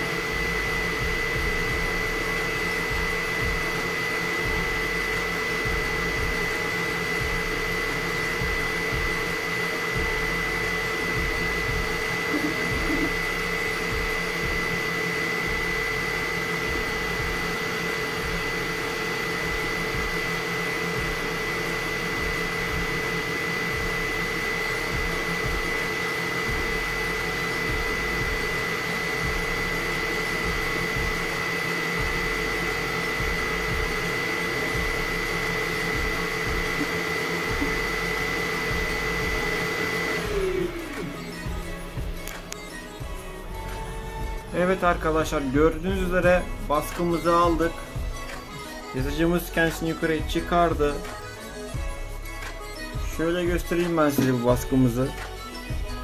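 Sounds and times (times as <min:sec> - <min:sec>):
constant high whine: 0:00.0 - 0:56.0
cooling fans whirring: 0:00.0 - 0:56.0.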